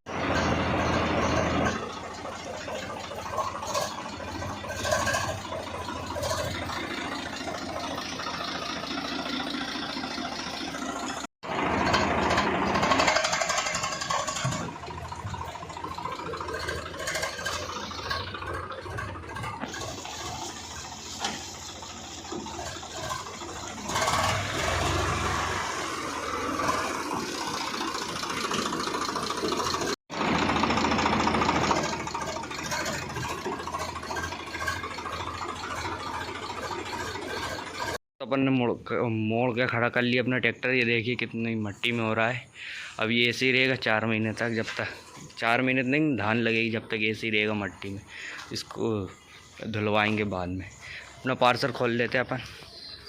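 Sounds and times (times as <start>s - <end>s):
tractor diesel engine running: 0.1s - 53.0s.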